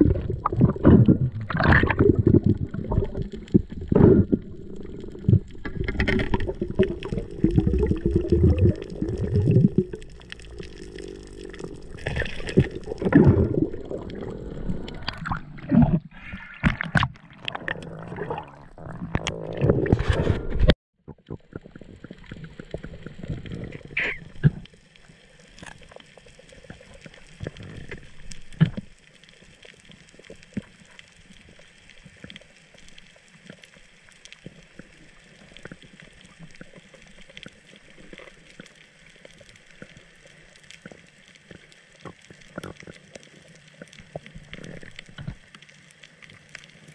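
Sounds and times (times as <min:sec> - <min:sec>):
underwater bubbling and rushing: 0:00.0 - 0:46.9.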